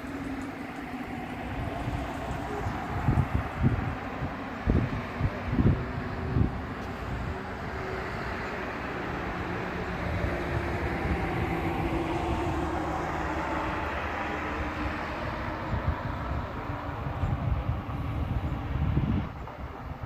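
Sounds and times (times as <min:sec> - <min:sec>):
jet engines running at low power: 0:00.0 - 0:20.0.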